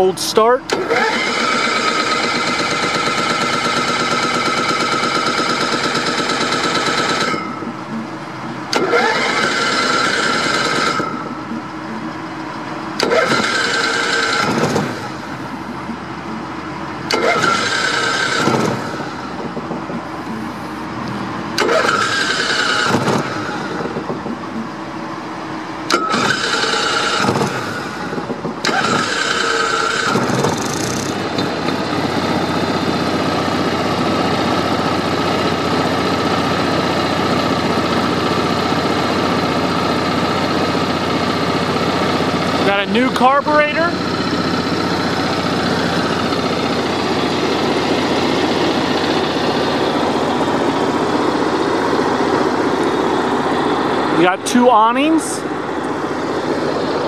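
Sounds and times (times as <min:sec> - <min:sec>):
generator starter cranking: 0:00.0 - 0:12.0, 0:12.8 - 0:16.0, 0:17.0 - 0:24.7, 0:25.3 - 0:57.0.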